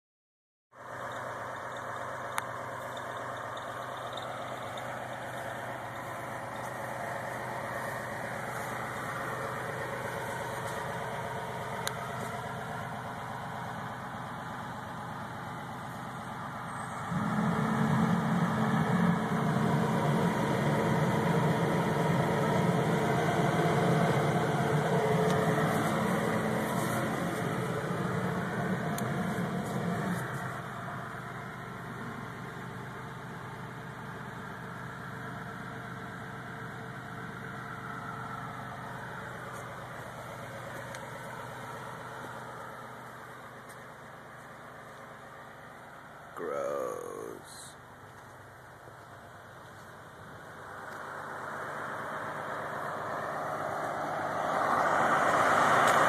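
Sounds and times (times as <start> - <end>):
diesel truck engine idling: 0.8 - 56.0
low hum: 0.9 - 54.8.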